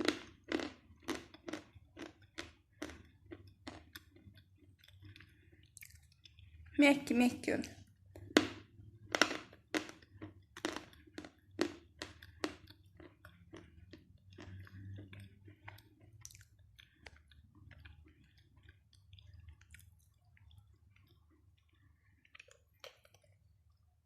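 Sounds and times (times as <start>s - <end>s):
chalk being bitten and chewed: 0.0s - 6.7s, 9.0s - 23.8s.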